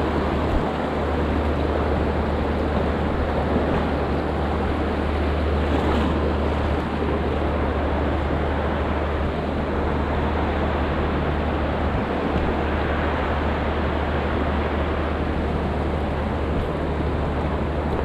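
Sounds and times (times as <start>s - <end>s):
river water rushing: 0.0s - 17.9s.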